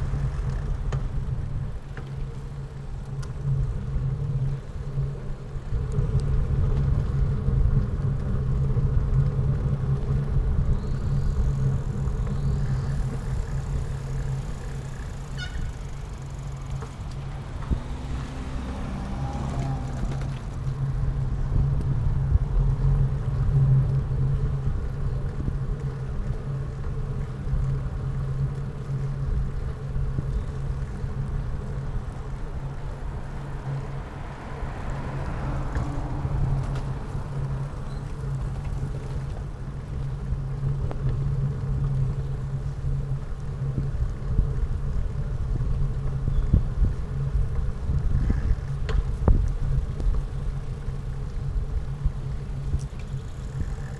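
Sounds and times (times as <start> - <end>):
road and air noise: 0.0 - 25.2, 29.3 - 53.9
vehicle engine drone: 0.0 - 53.9.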